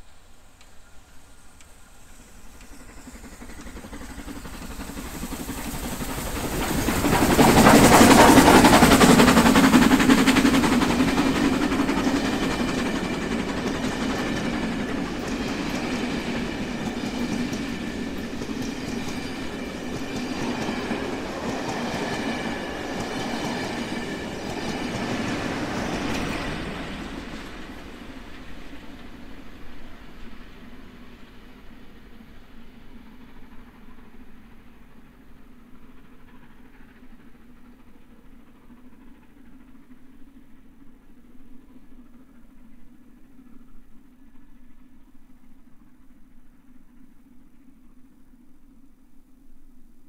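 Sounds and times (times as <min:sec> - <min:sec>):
steam train passing: 0:00.0 - 0:50.0.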